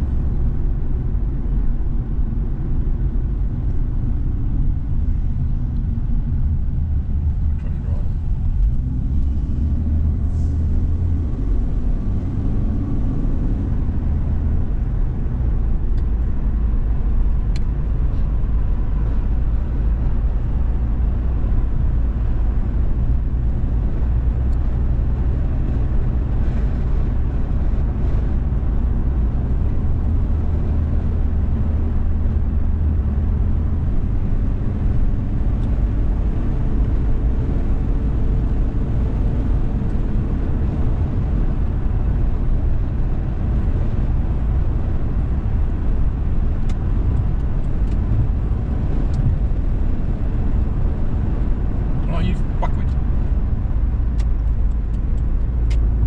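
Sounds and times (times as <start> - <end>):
car driving on highway rumble: 0.0 - 56.0.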